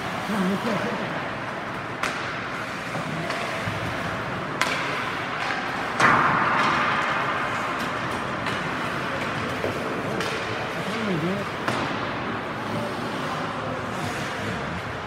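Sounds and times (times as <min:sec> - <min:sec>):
skates on ice: 0:00.0 - 0:15.0
hockey sticks and puck clacking: 0:01.0 - 0:15.0.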